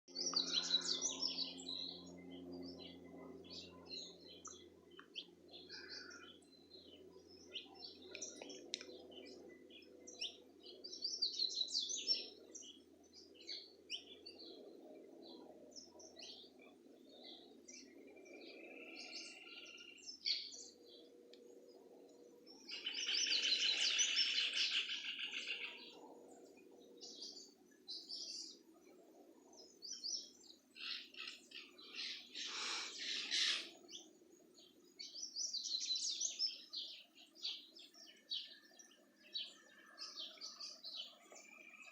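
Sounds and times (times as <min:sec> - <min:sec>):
low steady hum: 0:00.1 - 0:41.9
wild birds chirping and singing: 0:00.1 - 0:41.9.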